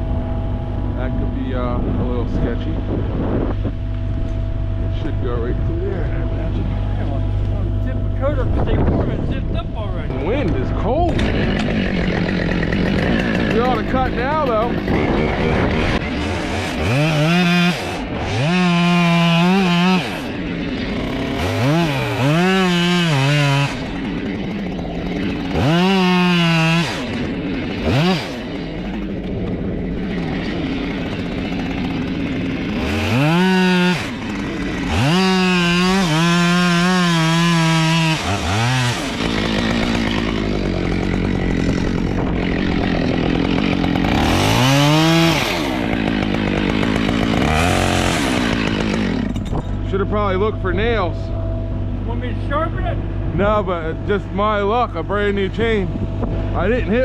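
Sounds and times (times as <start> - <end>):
chainsaw revving and cutting wood: 0.0 - 52.6, 53.3 - 57.0.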